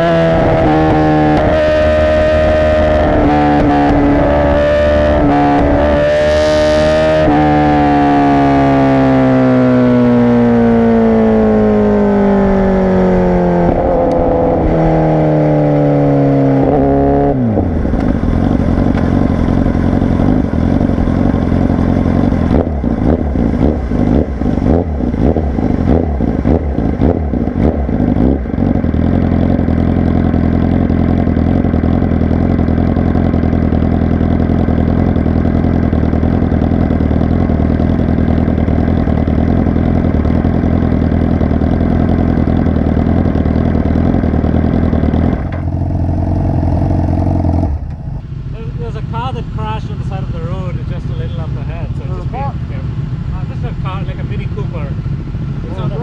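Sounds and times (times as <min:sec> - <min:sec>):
exhaust crackles: 0:00.0 - 0:56.0
motorcycle engine revving down: 0:00.0 - 0:56.0.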